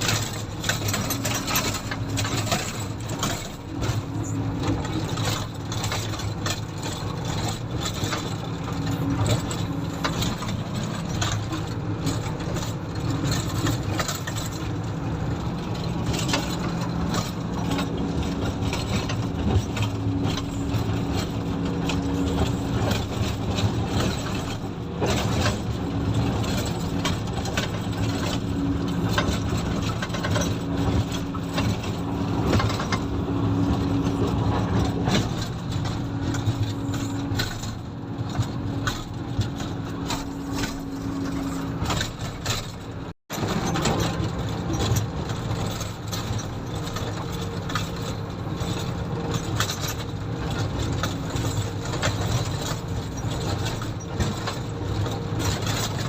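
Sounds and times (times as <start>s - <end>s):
diesel engine running: 0.0s - 56.0s
machine rattles and knocks: 0.0s - 56.0s.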